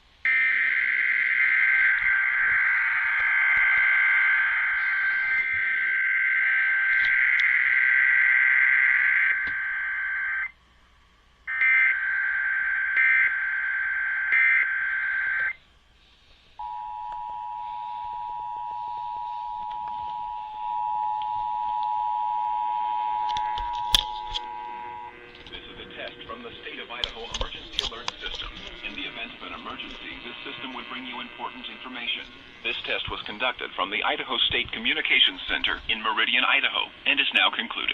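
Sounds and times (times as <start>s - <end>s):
harsh buzzing data signal: 0.3s - 10.6s, 11.5s - 15.6s, 16.6s - 37.9s.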